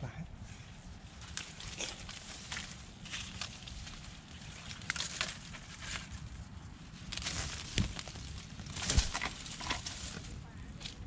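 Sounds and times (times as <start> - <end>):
steady low rumble: 0.0 - 11.0
dry leaves rustling and crackling: 0.8 - 11.0
twigs snapping: 1.1 - 6.3, 6.9 - 11.0.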